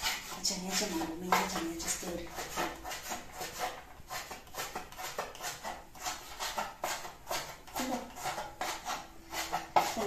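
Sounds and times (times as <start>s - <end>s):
knife chopping on wooden board: 0.0s - 10.0s.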